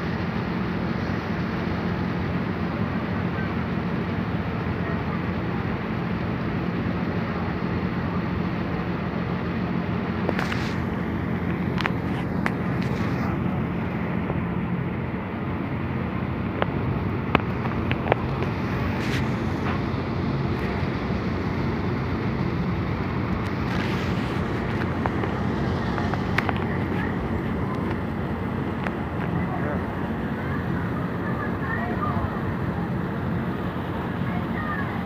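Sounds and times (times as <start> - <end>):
ferry engines droning: 0.0 - 35.0.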